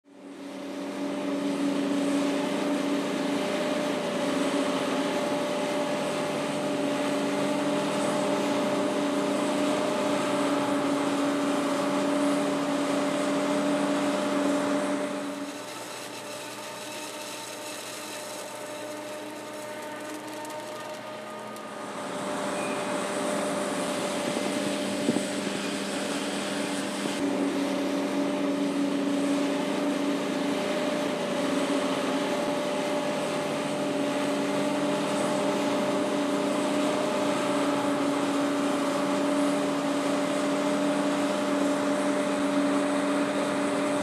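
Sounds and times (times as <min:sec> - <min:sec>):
forage harvester machine drone: 0:00.0 - 0:44.0.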